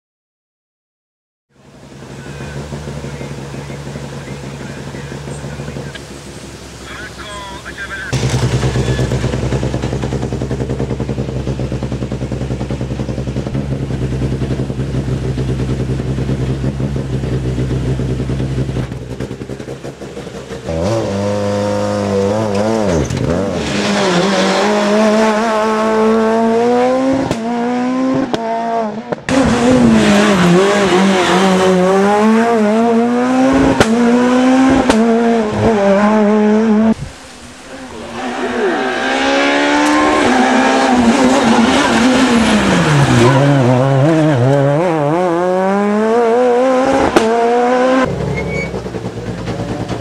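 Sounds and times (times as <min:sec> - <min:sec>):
rally car engine revving: 0:01.5 - 0:50.0.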